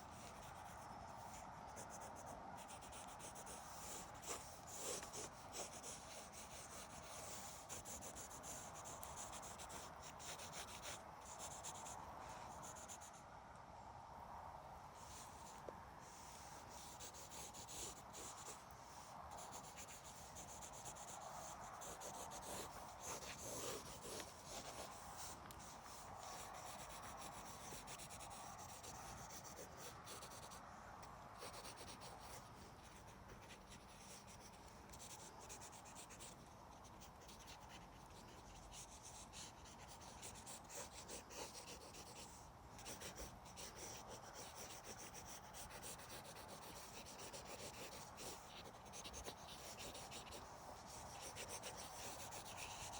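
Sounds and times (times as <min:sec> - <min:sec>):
pen scratching on paper: 0:00.1 - 0:11.9, 0:19.4 - 0:30.6, 0:31.4 - 0:52.9.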